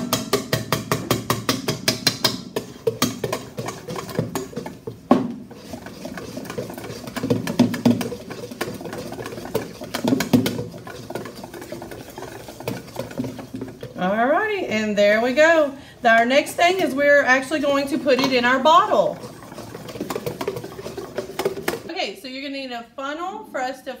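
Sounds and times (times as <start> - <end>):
whisk clinking against metal bowl: 0.0 - 14.2, 16.1 - 22.0
whisk stirring and scraping: 0.0 - 22.2.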